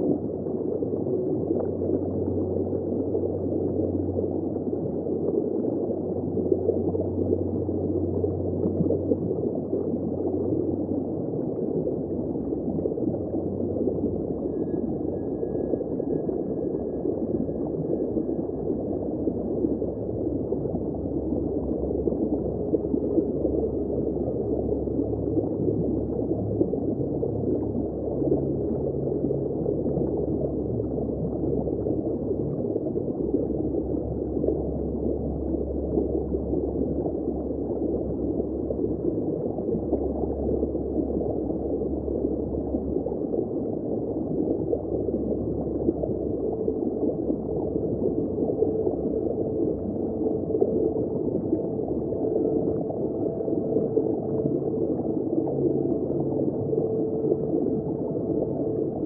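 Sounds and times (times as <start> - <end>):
low underwater rumble: 0.0 - 59.0
muffled underwater water rush: 0.0 - 59.0.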